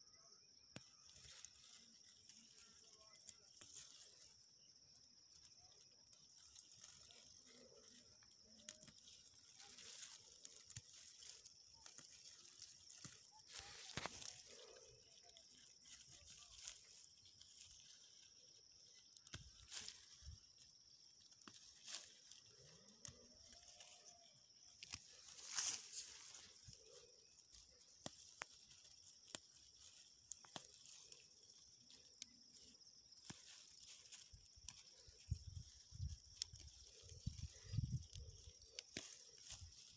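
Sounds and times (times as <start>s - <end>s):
plant stems snapping: 0.7s - 4.4s, 5.2s - 39.9s.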